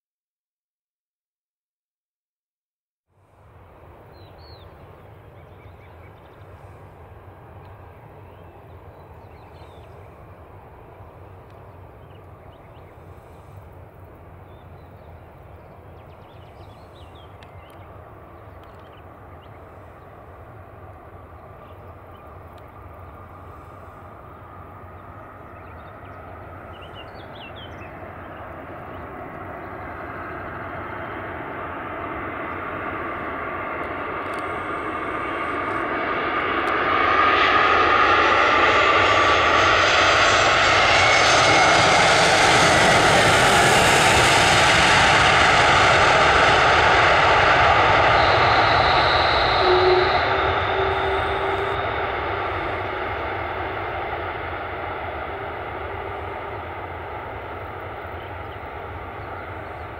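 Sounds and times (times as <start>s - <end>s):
jet airliner landing: 3.2s - 59.9s.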